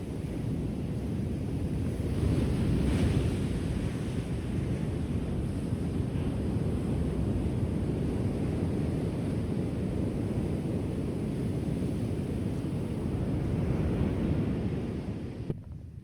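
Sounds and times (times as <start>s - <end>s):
ocean waves washing ashore: 0.0s - 15.5s.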